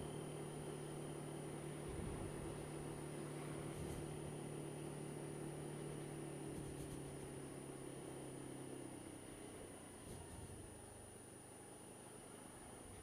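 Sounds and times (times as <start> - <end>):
scooter engine humming: 0.0 - 13.0
wind and road noise: 0.0 - 13.0.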